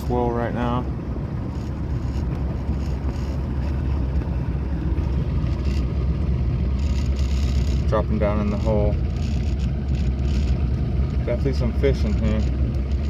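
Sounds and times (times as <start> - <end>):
boat motor droning: 0.0 - 13.0
wind: 0.0 - 13.0.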